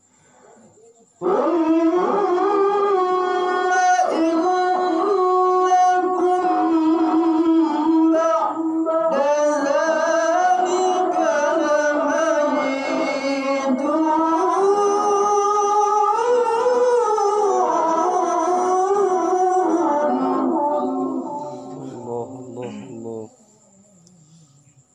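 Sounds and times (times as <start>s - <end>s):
man chanting into microphone: 1.2s - 23.4s.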